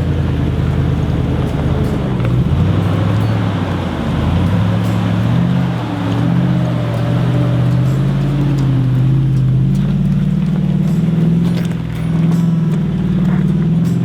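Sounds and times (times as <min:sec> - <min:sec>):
engine revving under load: 0:00.0 - 0:14.0.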